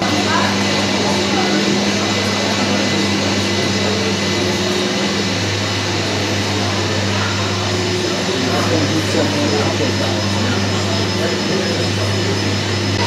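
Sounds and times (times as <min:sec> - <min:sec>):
higher humming tone: 0:00.0 - 0:13.0
whooshing machine noise with hum: 0:00.0 - 0:13.0.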